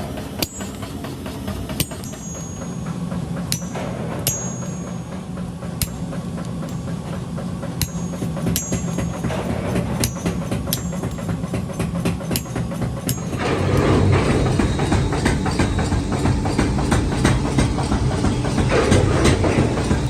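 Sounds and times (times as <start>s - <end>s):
low machine drone: 0.0s - 20.0s
hammer striking metal: 0.3s - 20.0s.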